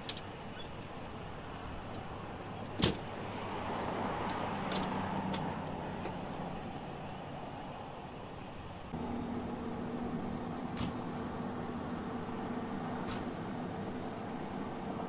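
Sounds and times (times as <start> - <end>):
vehicle engine and traffic: 0.0 - 15.0.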